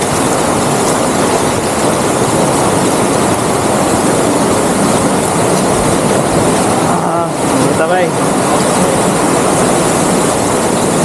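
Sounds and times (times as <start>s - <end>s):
shallow rocky stream rushing: 0.0s - 11.0s.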